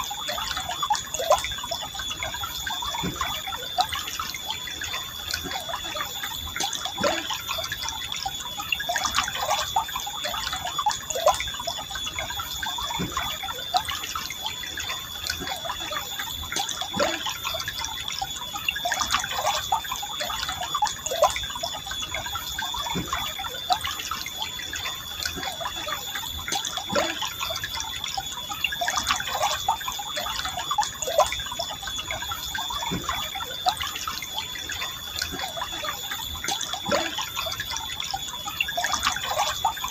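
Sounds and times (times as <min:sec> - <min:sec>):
bubbling plinks in water: 0:00.0 - 0:39.9
river water flowing and gurgling: 0:00.0 - 0:39.9
steady high-pitched tone: 0:00.0 - 0:39.9.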